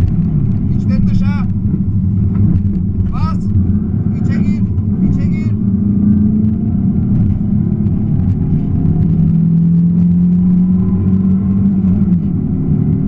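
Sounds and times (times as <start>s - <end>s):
rally car engine pulling hard: 0.0s - 13.0s.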